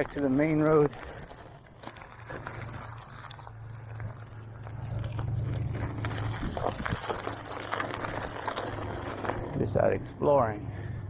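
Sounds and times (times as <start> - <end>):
bike clicks and rattles: 0.0 - 10.2
mountain bike rolling on dirt: 0.0 - 11.0.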